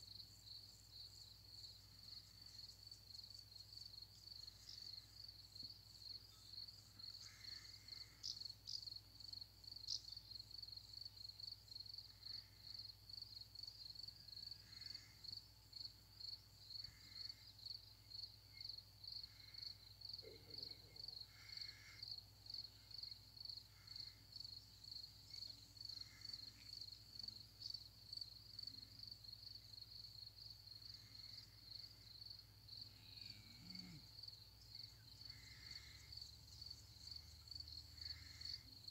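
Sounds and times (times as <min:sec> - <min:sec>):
faint crickets chirping: 0:00.0 - 0:38.9.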